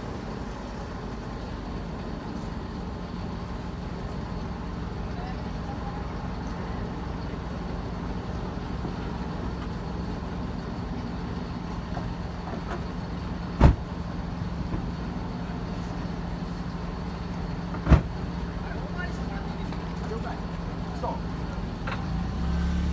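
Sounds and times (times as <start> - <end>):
hum of vehicles and machinery: 0.0 - 22.9.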